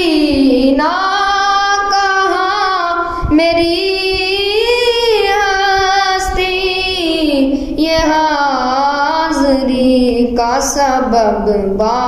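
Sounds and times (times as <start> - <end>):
boy singing unaccompanied: 0.0 - 12.0.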